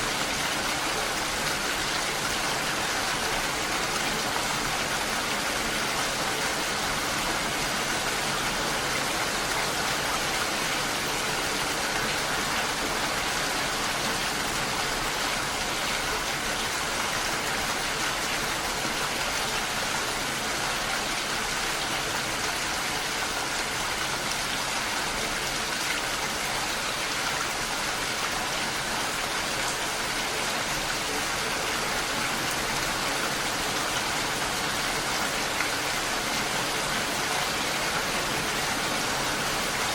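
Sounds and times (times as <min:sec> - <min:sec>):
gentle rain falling: 0:00.0 - 0:39.9
waterfall rushing: 0:00.0 - 0:39.9.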